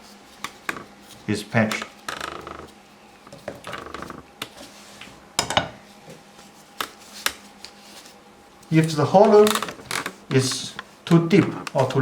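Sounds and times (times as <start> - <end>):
objects rustling on table: 0.0 - 12.0.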